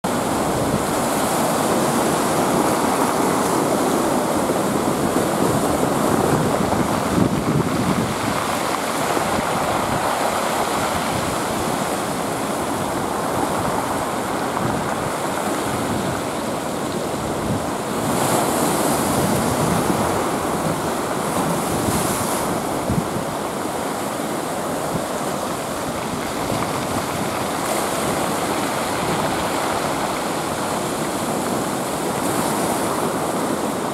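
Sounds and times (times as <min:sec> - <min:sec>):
wind rushing over microphone: 0:00.0 - 0:33.9
surf breaking and washing: 0:00.1 - 0:33.9.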